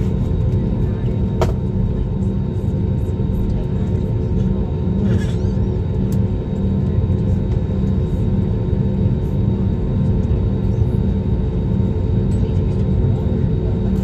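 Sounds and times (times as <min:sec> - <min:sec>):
airliner engine drone in cabin: 0:00.0 - 0:14.0.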